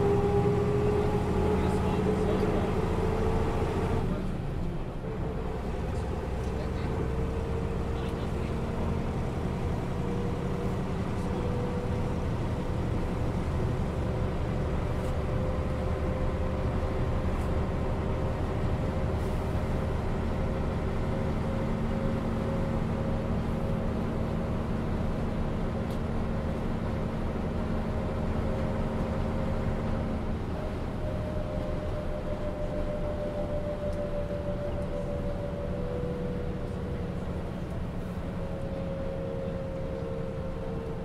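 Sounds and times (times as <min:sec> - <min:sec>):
bus diesel engine drone: 0:00.0 - 0:41.0.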